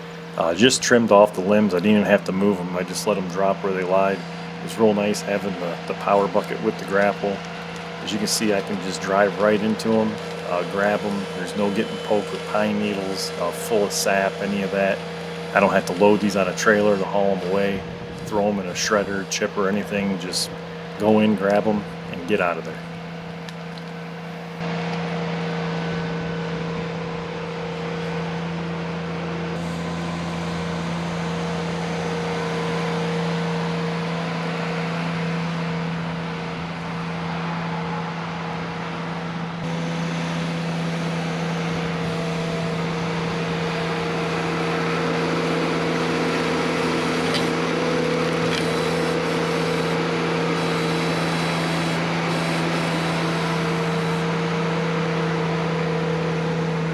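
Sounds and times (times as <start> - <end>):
tractor engine humming: 0.0 - 24.6, 29.0 - 56.9.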